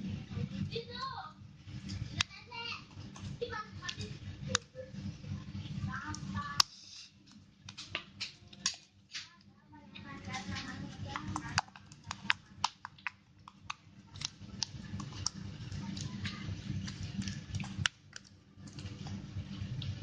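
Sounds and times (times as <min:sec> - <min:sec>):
steady low hum: 0:00.0 - 0:20.0
slime being stirred clicking: 0:01.7 - 0:20.0.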